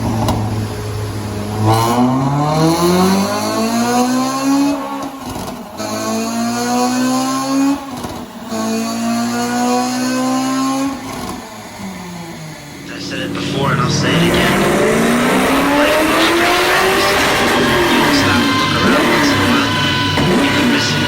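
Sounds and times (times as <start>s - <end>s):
car engine accelerating: 0.0s - 21.0s
exhaust crackle at gear change: 0.0s - 21.0s.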